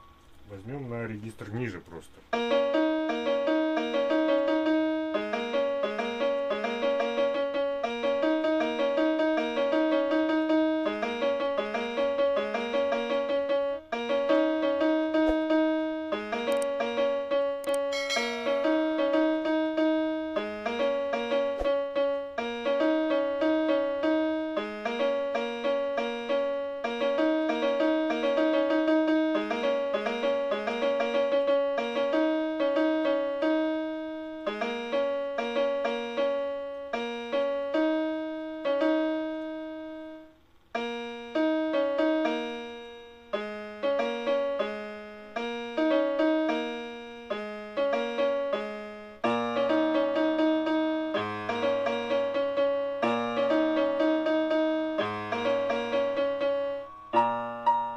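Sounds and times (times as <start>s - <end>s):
electronic keyboard piano notes: 0.0s - 57.9s.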